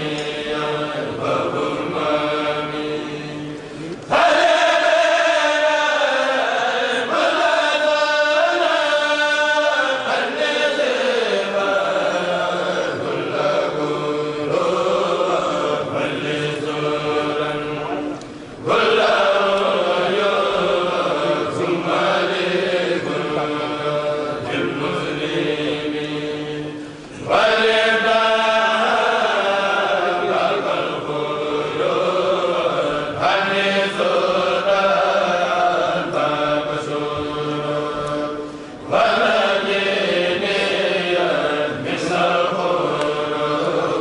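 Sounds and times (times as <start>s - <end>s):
men chanting unaccompanied: 0.0s - 44.0s.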